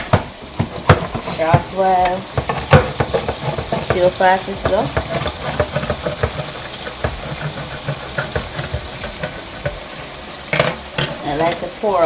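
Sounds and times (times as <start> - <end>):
can opener clicking and crunching: 0.0 - 4.0, 4.6 - 11.7
food sizzling in a pan: 0.0 - 12.0.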